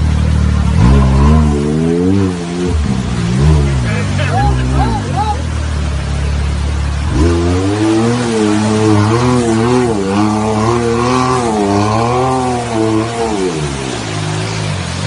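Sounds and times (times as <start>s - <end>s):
off-road buggy engine revving: 0.0s - 15.0s.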